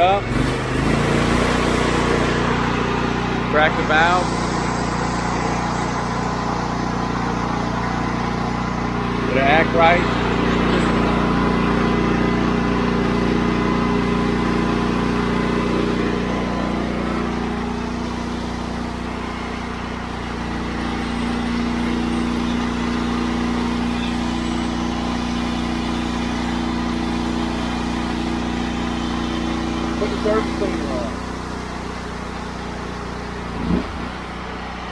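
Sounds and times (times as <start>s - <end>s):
engine driving pressure washer pump: 0.0s - 34.9s.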